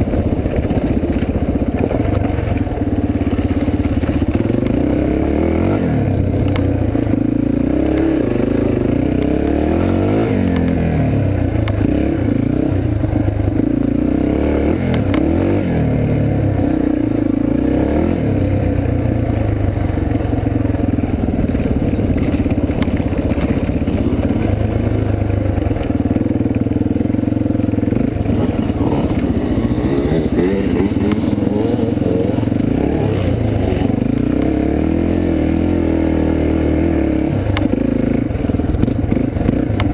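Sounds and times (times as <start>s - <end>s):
bike rattling over bumps: 0.0s - 13.7s, 18.8s - 35.8s, 36.8s - 39.9s
dirt bike engine revving: 0.0s - 39.9s.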